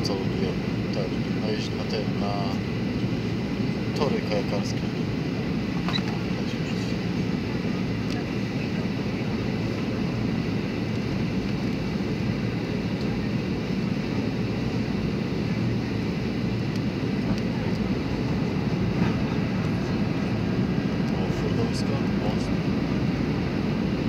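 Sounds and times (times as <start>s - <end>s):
airliner cabin engine drone: 0.0s - 24.0s.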